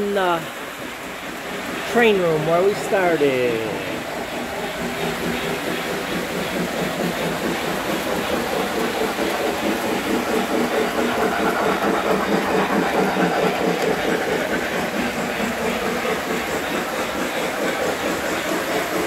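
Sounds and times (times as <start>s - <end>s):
model trains rattling on track: 0.0s - 19.0s.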